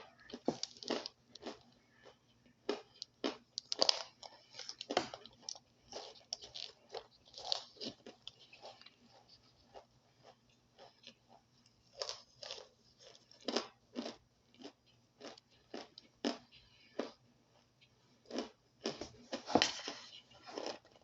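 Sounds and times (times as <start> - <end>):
crunchy food chewing: 0.0 - 21.0.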